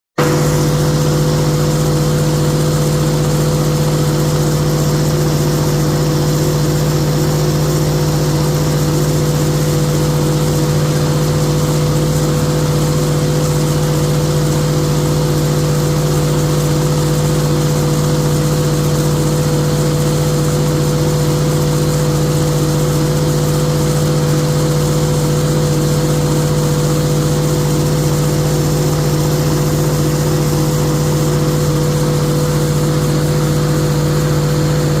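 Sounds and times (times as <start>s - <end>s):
pile-driving rig mechanical hum: 0.2s - 35.0s.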